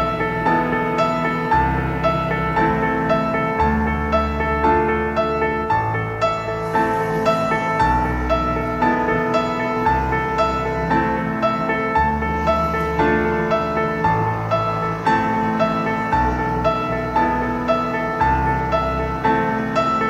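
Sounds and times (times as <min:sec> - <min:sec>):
instrumental piano music: 0:00.0 - 0:20.0.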